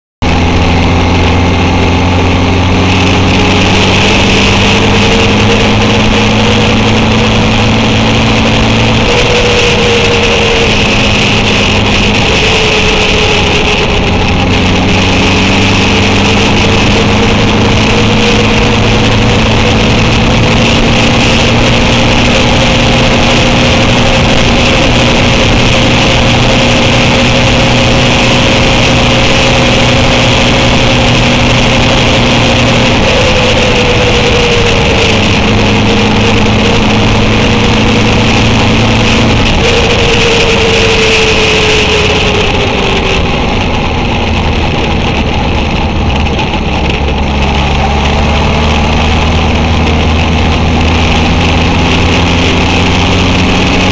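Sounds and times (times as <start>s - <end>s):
motorcycle engine running: 0.2s - 53.9s
wind and road noise: 0.2s - 53.9s.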